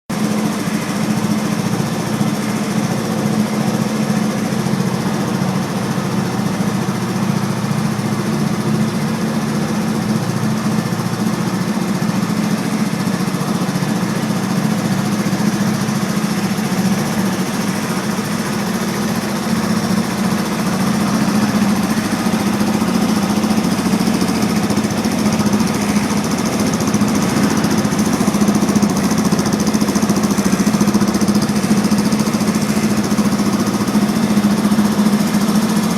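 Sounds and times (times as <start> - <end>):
quad engine running: 0.1 - 35.9.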